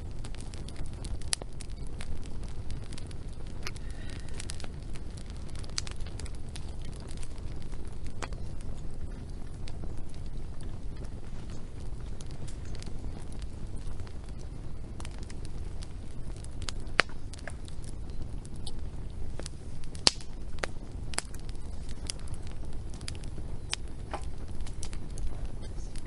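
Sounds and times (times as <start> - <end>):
fire low rumble: 0.0 - 26.0
wood fire pops and snaps: 0.0 - 26.0.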